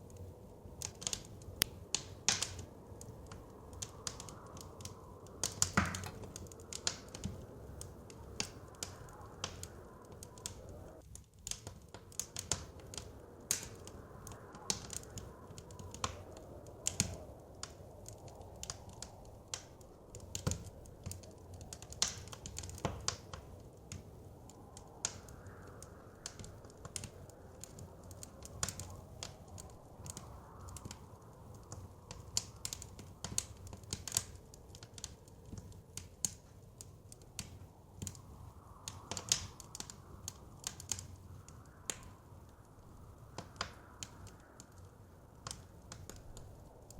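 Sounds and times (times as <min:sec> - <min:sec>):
blizzard wind rushing: 0:00.0 - 0:11.1, 0:11.8 - 0:46.9
wood fire crackling: 0:00.0 - 0:46.9.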